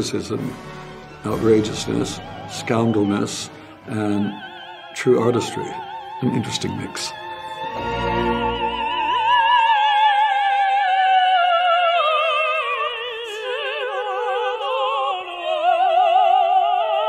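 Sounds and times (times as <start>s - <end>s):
tenor singing: 0.0s - 17.0s
operatic soprano singing: 0.1s - 17.0s.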